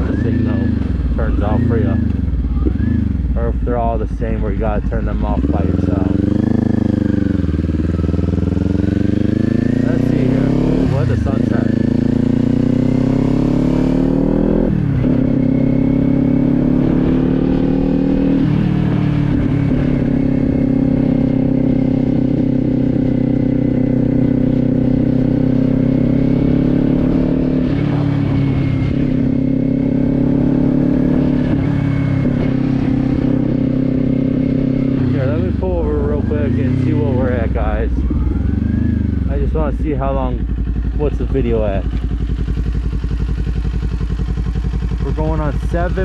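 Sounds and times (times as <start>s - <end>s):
motorcycle engine shifting gears: 0.0s - 46.0s.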